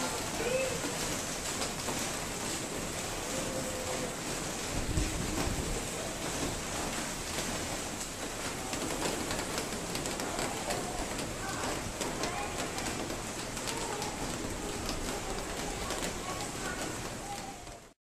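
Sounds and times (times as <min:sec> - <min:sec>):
raindrops ticking on hard surfaces: 0:00.0 - 0:18.0
steady rain falling: 0:00.0 - 0:18.0.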